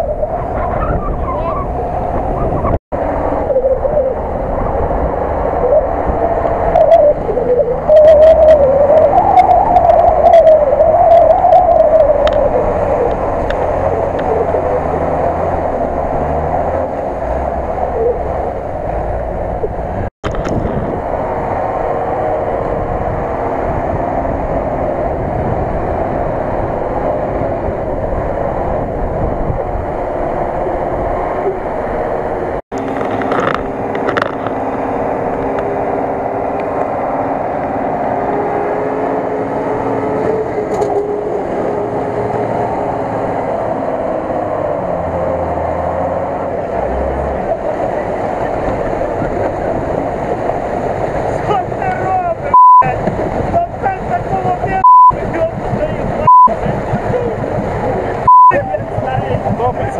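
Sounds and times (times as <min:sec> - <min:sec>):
diesel truck engine labouring: 0:00.0 - 0:59.9.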